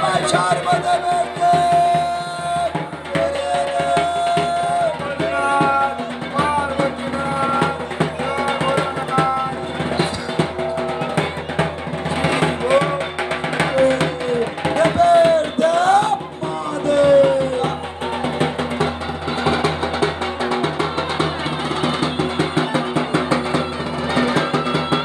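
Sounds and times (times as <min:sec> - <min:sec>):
barrel drum beaten fast: 0:00.0 - 0:25.0
crowd voices: 0:00.0 - 0:25.0.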